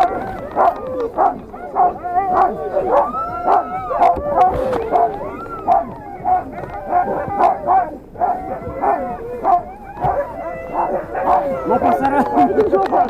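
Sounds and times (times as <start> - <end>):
dogs yelping: 0.0 - 13.0
sled dogs barking: 0.0 - 13.0.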